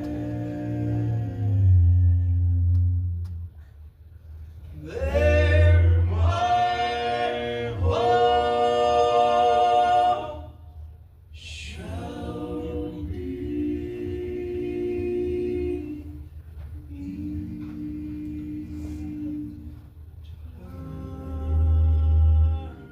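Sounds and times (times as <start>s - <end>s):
male quartet singing held notes: 0.0s - 3.1s, 4.8s - 19.9s, 20.5s - 22.9s.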